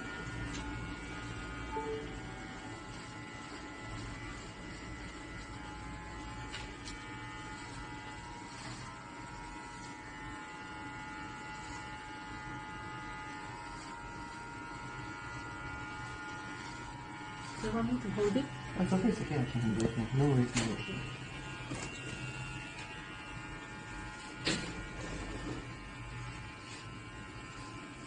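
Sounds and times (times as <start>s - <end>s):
electric hair clippers buzzing: 0.0s - 28.0s.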